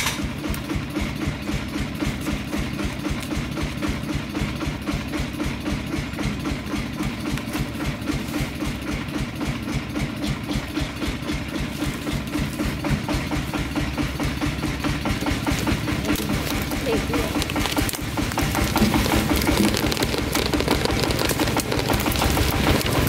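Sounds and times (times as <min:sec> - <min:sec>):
heavy engine idling: 0:00.0 - 0:23.0.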